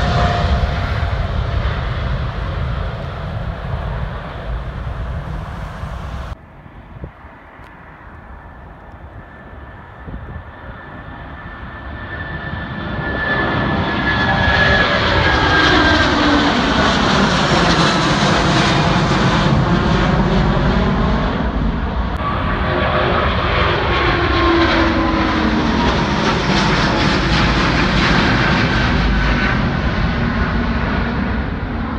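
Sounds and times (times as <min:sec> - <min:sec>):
high jet engine whine: 0:00.0 - 0:31.9
jet airliner engines roaring: 0:00.0 - 0:31.9.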